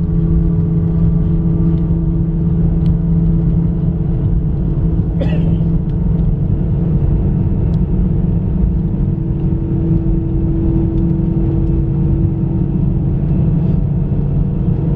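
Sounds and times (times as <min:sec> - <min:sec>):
aircraft cabin low rumble: 0:00.0 - 0:14.9.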